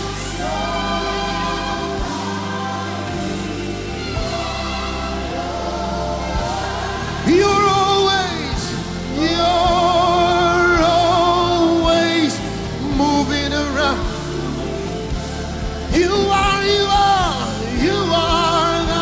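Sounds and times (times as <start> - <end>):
keyboard chords: 0.0 - 19.0
person singing wordless notes: 0.0 - 19.0.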